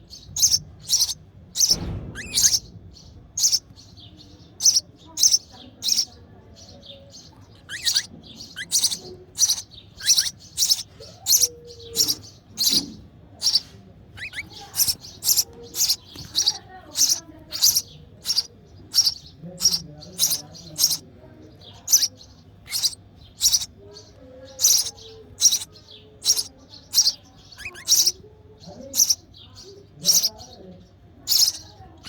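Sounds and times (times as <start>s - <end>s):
nestling sparrows chirping: 0.0s - 32.0s.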